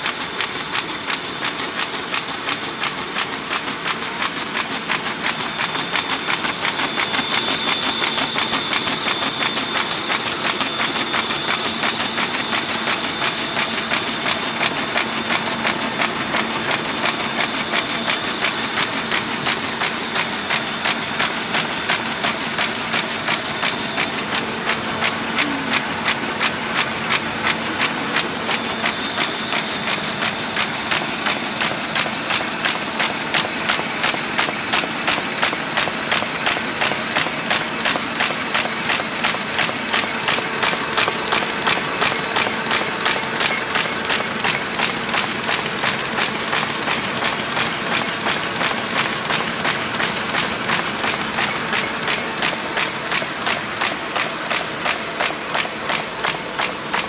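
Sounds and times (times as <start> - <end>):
paper folding machine clatter: 0.0 - 57.0.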